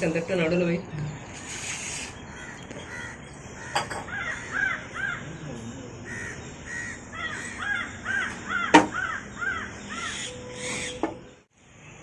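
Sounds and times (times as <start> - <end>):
birds calling: 0.4 - 12.0.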